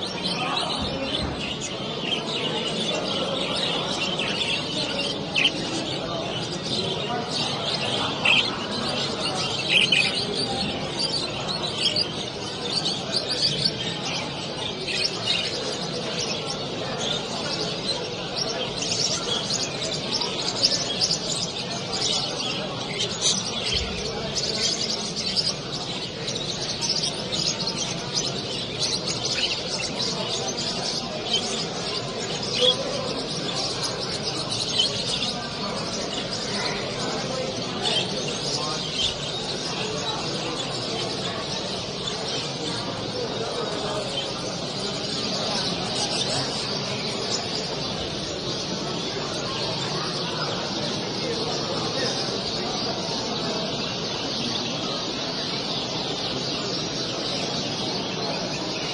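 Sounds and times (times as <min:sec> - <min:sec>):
crowd murmur: 0:00.0 - 0:58.9
songbirds chirping and singing: 0:00.0 - 0:58.9.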